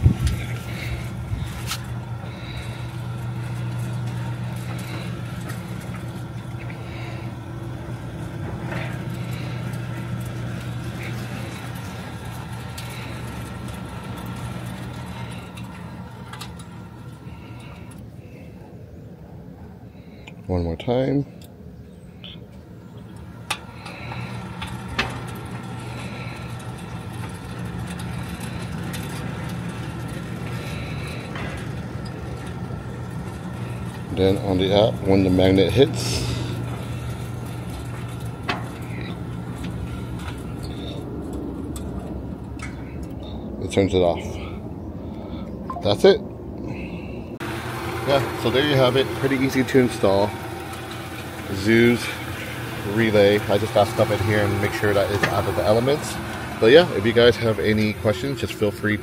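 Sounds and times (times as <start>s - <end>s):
gate motor humming: 0.0s - 19.2s, 22.2s - 45.9s, 46.7s - 59.0s.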